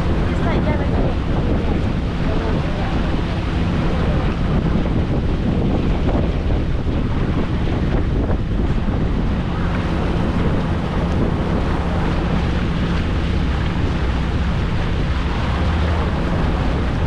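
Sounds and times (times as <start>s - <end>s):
boat engine humming: 0.0s - 17.0s
water rushing past: 0.0s - 17.0s
wind buffeting microphone: 0.0s - 17.0s.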